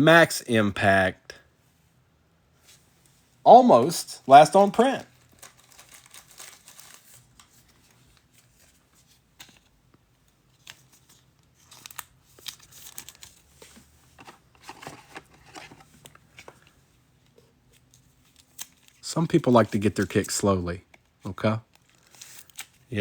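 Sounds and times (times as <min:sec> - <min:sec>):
trading cards being handled: 0:03.7 - 0:23.0.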